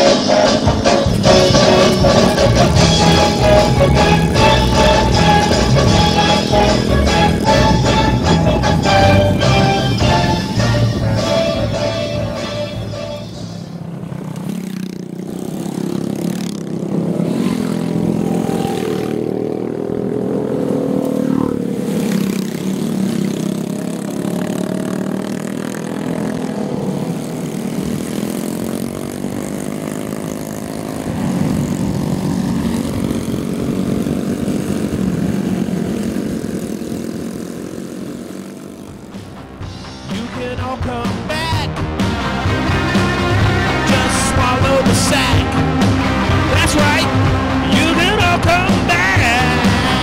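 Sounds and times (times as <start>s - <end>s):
motorcycle engines revving: 0.0s - 50.0s.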